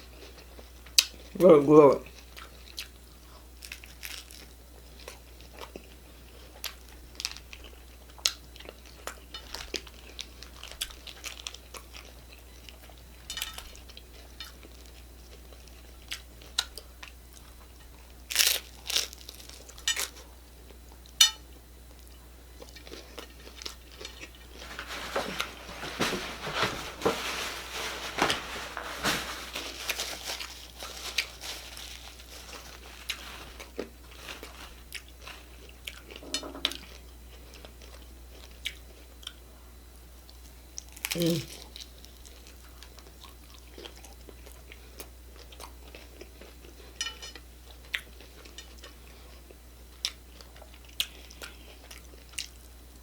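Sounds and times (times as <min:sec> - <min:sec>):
taco shells crunching: 0:02.1 - 0:20.3, 0:22.6 - 0:39.4, 0:40.8 - 0:49.0.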